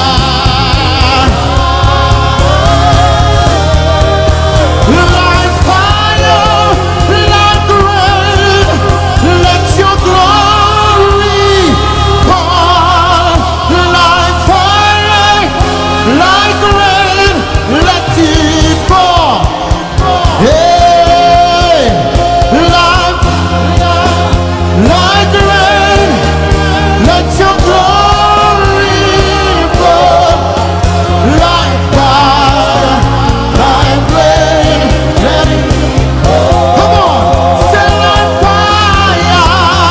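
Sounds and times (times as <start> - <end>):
instrumental backing with bass: 0.0 - 39.9.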